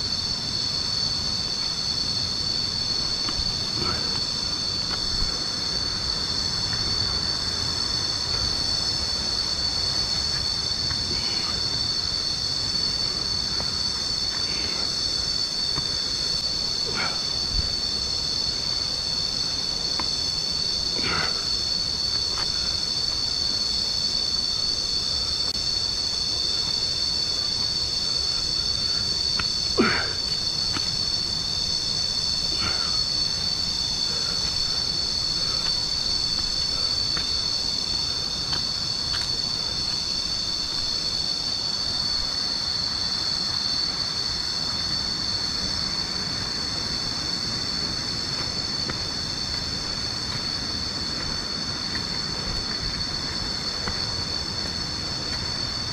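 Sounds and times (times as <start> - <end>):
insects droning chorus: 0.0 - 55.9.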